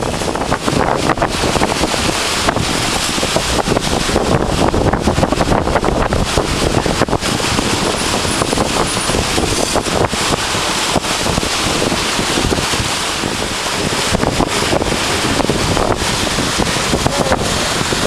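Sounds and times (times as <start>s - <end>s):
sea rushing: 0.0s - 18.0s
wind buffeting microphone: 0.0s - 18.0s.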